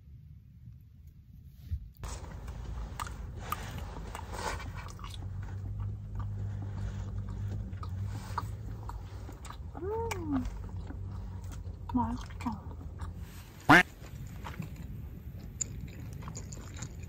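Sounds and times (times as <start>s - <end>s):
steady low hum: 0.0s - 17.0s
person chewing crunchy chicken: 2.1s - 17.0s.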